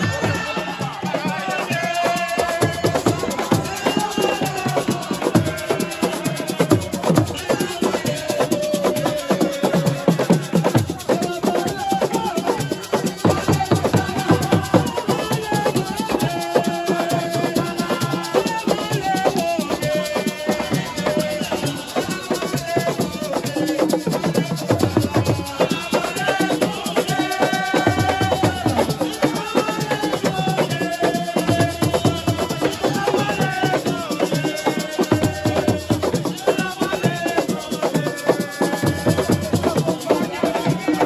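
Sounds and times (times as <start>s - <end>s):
fast dense drumming: 0.0s - 41.0s
group singing: 0.0s - 41.0s
shaken percussion: 0.0s - 41.0s.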